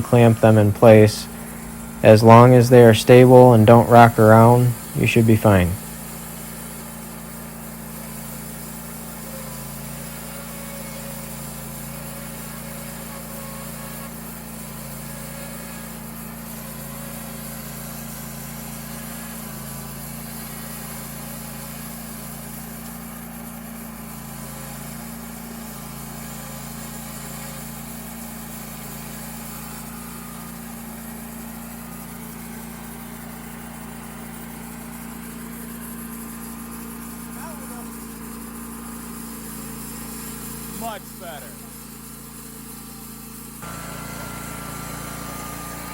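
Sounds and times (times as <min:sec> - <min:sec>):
bandsaw sawing log: 0:00.0 - 0:45.9
sawmill engine droning: 0:00.0 - 0:45.9.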